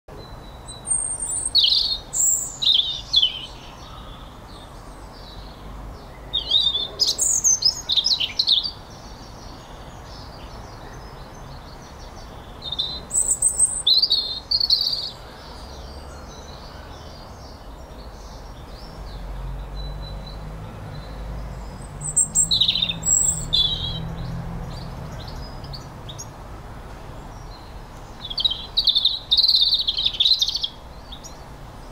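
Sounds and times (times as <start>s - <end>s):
birds chirping: 0.1s - 31.9s.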